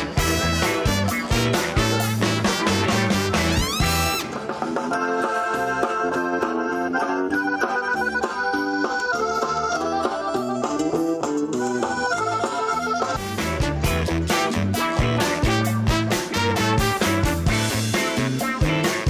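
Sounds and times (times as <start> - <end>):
accordion melody: 0.0 - 19.0
bass guitar: 0.0 - 19.0
drums: 0.0 - 19.0.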